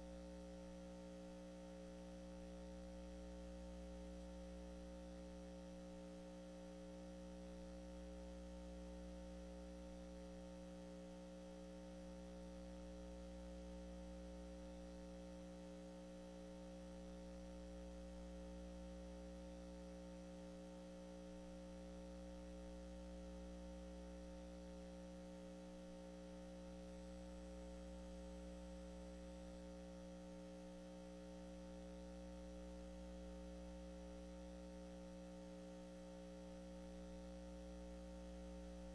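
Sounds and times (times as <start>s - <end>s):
faint electrical hum: 0.0s - 38.9s.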